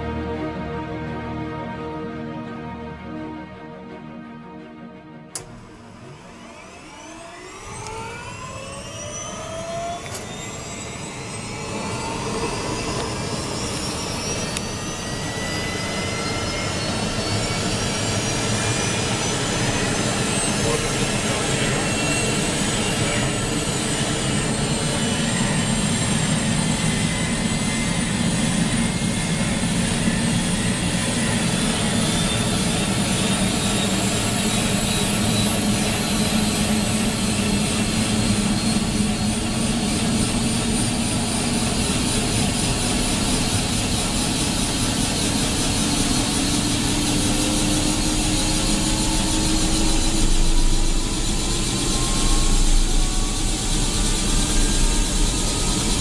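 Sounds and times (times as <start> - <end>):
helicopter turbine whine rising: 0.0 - 56.0.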